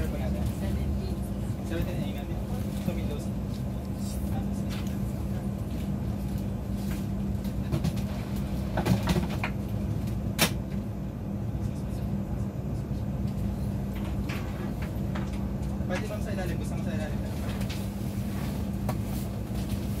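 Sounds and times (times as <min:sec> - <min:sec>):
airliner cabin hum: 0:00.0 - 0:20.0
murmur of passengers: 0:00.0 - 0:20.0.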